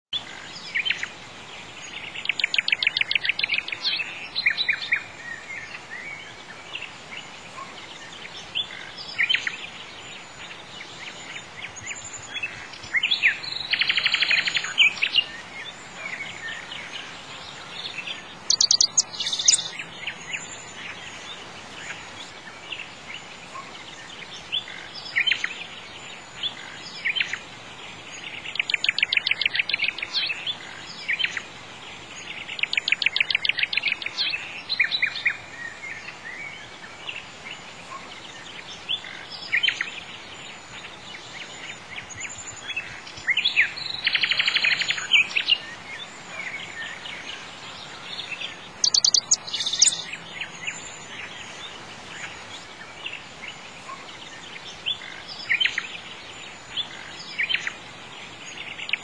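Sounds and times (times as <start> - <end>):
birds chirping trills: 0.2 - 59.0
faint steady hiss: 0.2 - 59.0.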